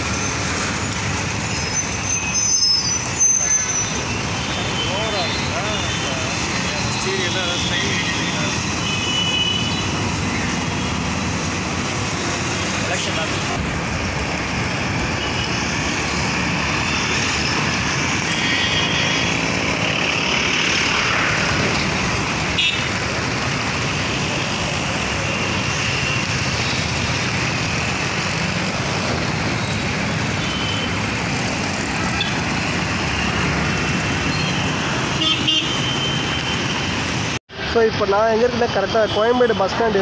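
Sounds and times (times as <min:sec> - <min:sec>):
cars and motorbikes passing: 0:03.0 - 0:38.4.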